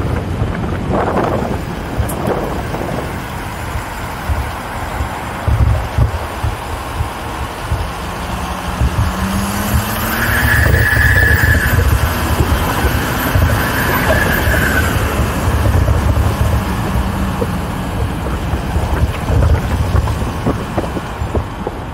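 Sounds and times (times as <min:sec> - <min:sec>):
off-road vehicle engine rumbling: 0:00.0 - 0:21.9
tyres on gravel track: 0:00.0 - 0:21.9
wind on microphone: 0:00.0 - 0:21.9.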